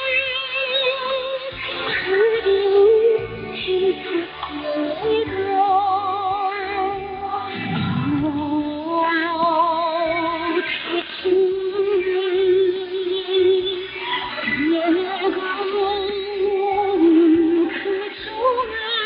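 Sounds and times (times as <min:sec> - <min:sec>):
woman singing with vibrato: 0:00.0 - 0:19.0
instrumental accompaniment: 0:01.5 - 0:18.8.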